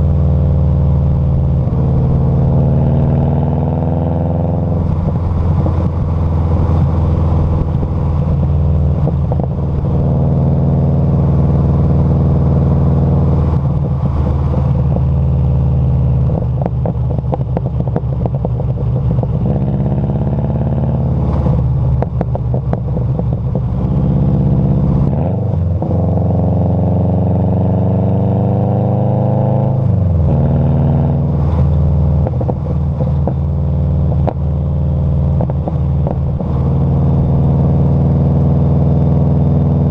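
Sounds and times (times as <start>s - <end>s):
vehicle exhaust engine running: 0.0s - 39.9s.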